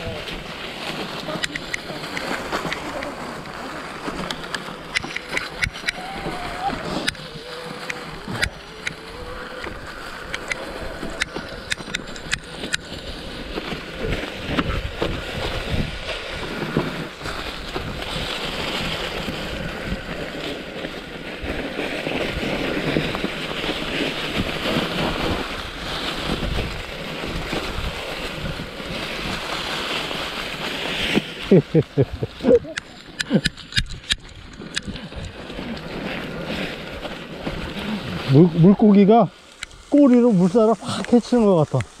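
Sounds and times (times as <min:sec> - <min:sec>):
wind on microphone: 0:00.0 - 0:38.9
bike tyres crunching dry leaves: 0:00.0 - 0:42.0
bike clicks and rattles: 0:00.3 - 0:31.3, 0:32.4 - 0:37.9.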